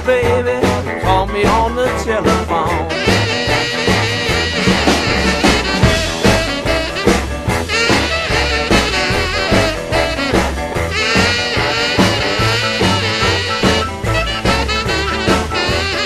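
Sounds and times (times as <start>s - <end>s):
swing band instrumental: 0.0s - 16.0s.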